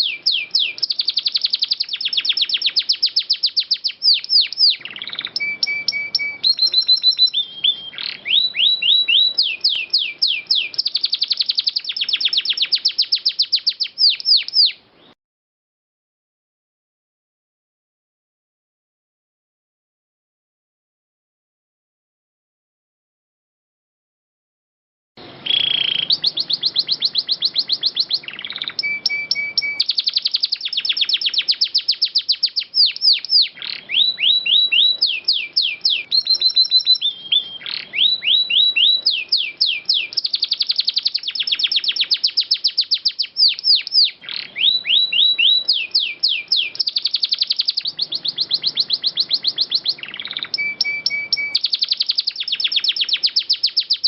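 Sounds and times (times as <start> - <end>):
canary singing trills: 0.0 - 15.2, 25.2 - 54.0.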